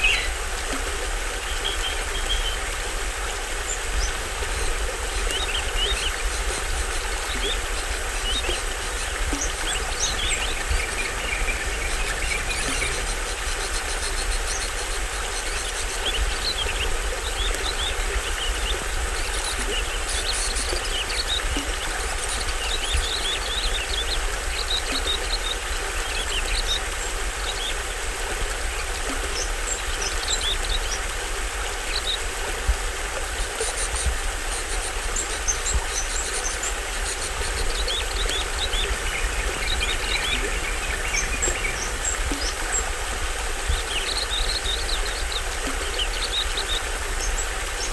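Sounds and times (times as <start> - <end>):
birds chirping and trilling: 0.0 - 0.4, 1.4 - 27.9, 33.7 - 47.9
waterfall rushing: 0.0 - 47.9.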